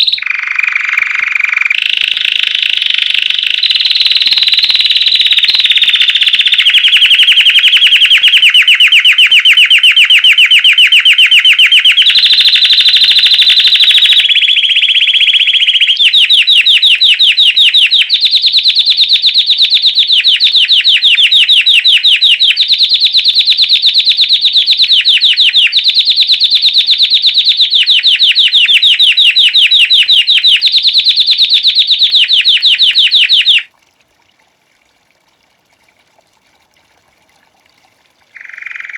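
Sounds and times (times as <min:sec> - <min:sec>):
canary singing: 0:00.0 - 0:33.7, 0:38.4 - 0:38.9.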